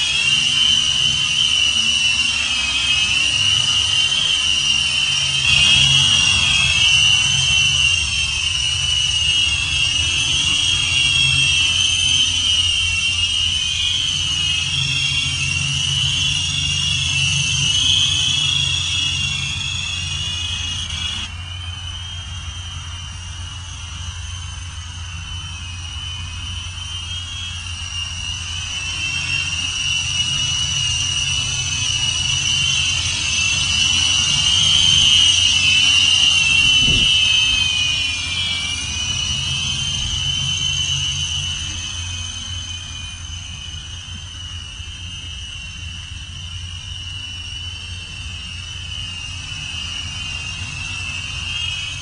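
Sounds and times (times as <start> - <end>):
rc helicopter motors whining: 0.0 - 52.0.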